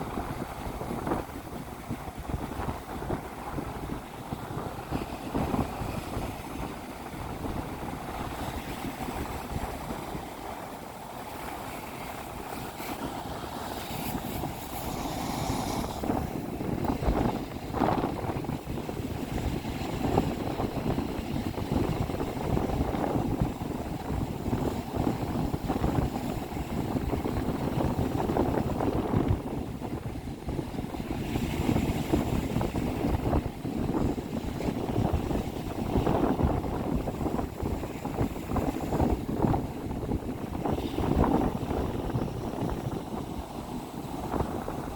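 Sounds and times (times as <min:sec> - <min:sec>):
surf breaking on a beach: 0:00.0 - 0:44.9
wind buffeting microphone: 0:00.0 - 0:44.9.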